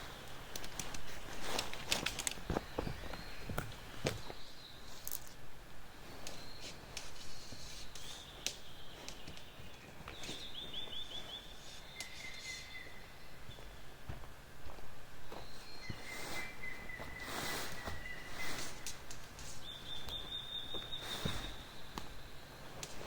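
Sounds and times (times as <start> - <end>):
birds whistling and chirping: 0.9 - 5.0, 6.3 - 13.8, 15.3 - 23.0.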